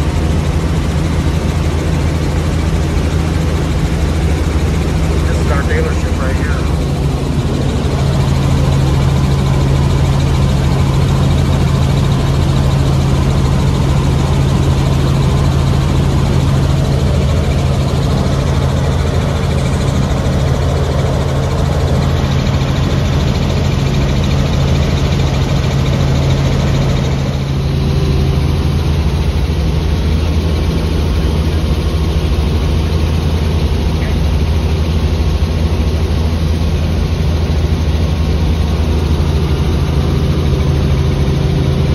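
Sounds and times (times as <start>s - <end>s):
helicopter rotor and engine drone: 0.0s - 41.9s.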